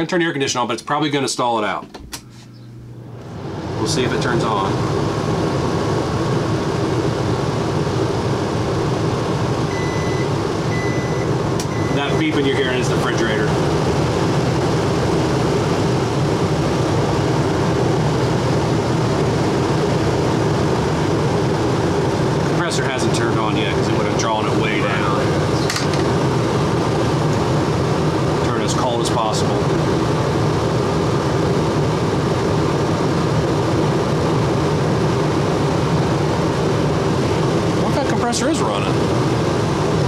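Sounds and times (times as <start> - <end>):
air conditioner droning: 0.0 - 40.0.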